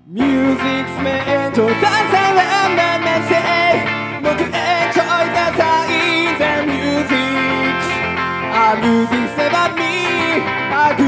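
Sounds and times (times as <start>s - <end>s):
electric guitar: 0.0s - 11.0s
person singing: 0.0s - 11.0s
live rock band playing: 0.1s - 11.0s.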